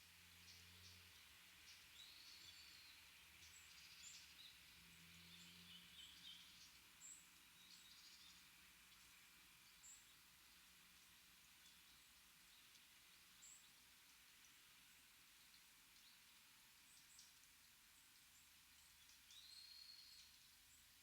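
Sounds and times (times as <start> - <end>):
background hiss: 0.0 - 21.0
small songbirds chirping: 0.0 - 21.0.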